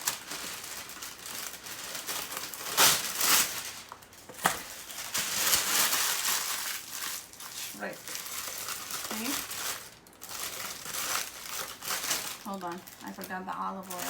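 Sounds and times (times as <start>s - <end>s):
parchment paper crinkling: 0.0s - 14.0s.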